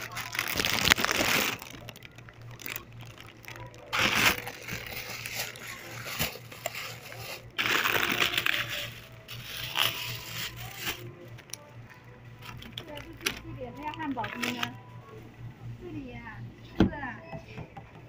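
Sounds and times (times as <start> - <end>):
rustling handling noises: 0.0 - 15.2.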